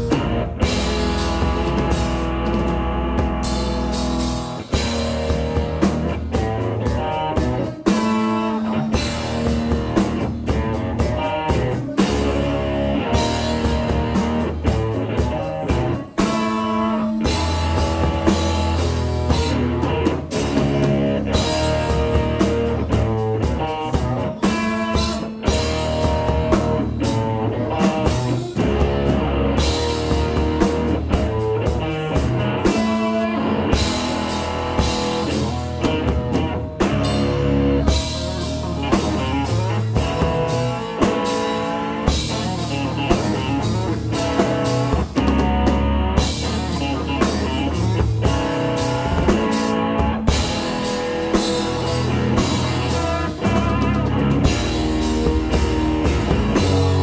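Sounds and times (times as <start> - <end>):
drum kit and cymbal hits: 0.0 - 57.0
electric guitar: 0.0 - 57.0.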